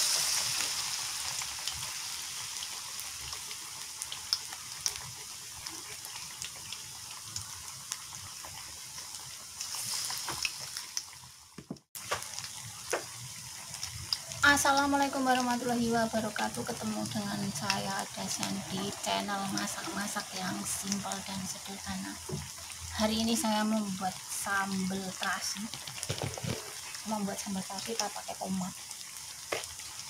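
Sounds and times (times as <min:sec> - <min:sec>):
oil sizzling in frying pan: 0:00.0 - 0:30.0.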